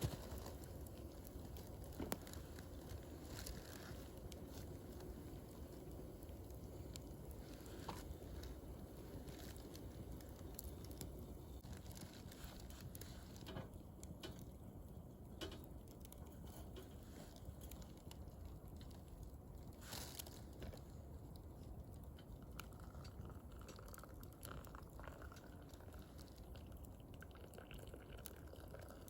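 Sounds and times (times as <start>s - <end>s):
campfire crackling: 0.0s - 29.0s
low steady rumble: 0.0s - 29.0s.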